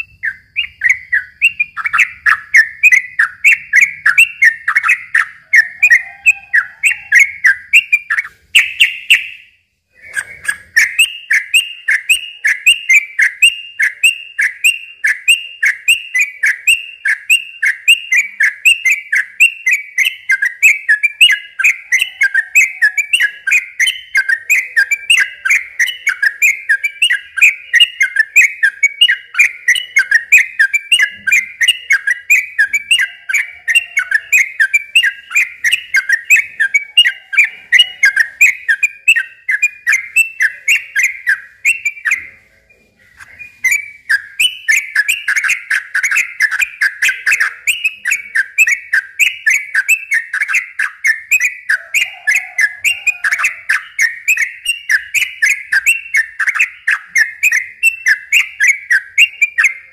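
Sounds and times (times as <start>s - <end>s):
bird singing repeated whistled notes: 0.0s - 59.9s.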